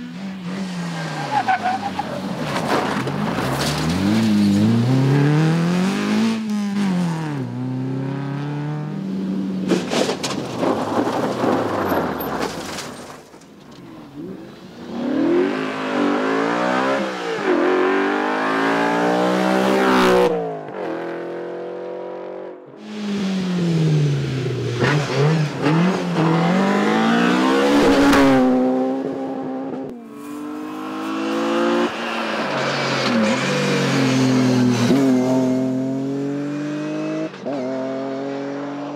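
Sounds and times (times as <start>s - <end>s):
rally car engines revving: 0.0s - 12.4s, 13.8s - 38.9s.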